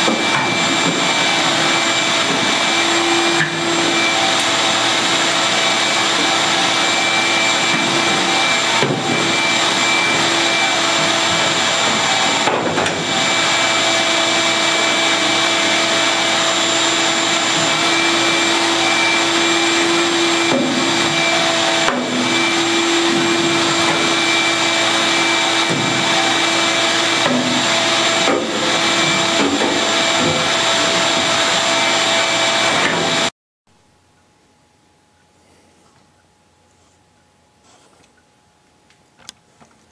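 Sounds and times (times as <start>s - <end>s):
shop vacuum running: 0.0s - 33.3s.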